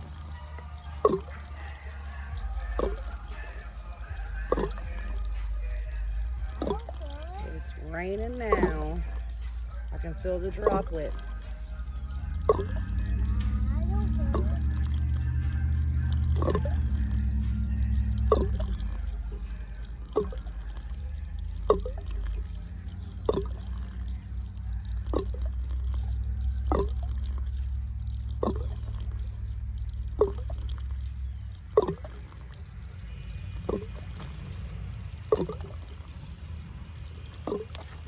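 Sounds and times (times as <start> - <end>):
low steady hum: 0.0 - 38.0
water dripping into water: 0.0 - 38.0.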